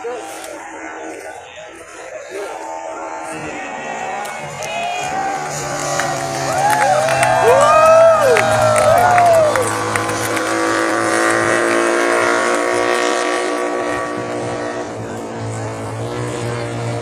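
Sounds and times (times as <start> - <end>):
racing motorcycles at high revs: 0.0 - 17.0.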